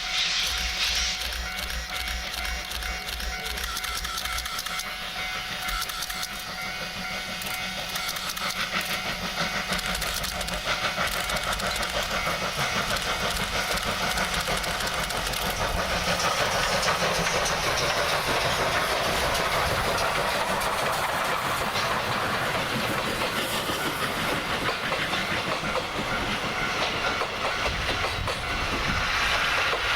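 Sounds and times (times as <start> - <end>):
steam locomotive running: 0.0 - 29.9.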